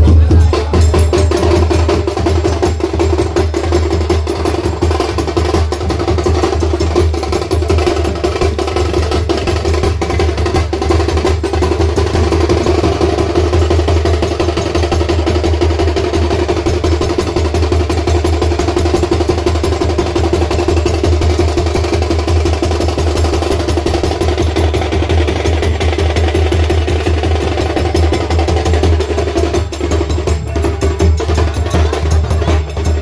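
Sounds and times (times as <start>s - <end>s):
fast continuous drumming: 0.0s - 33.0s.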